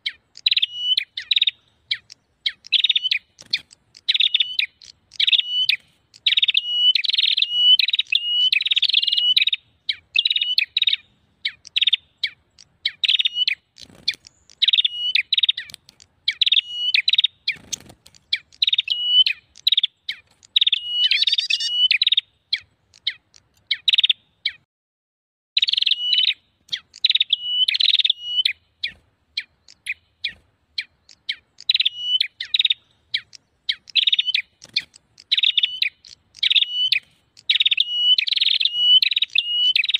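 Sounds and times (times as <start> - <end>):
bird chirping rapidly: 0.0 - 24.6, 25.6 - 39.9.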